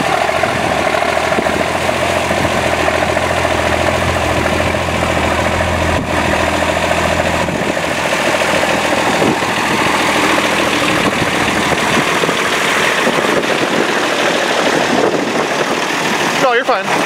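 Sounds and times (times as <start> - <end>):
diesel truck engine clattering: 0.0 - 17.0.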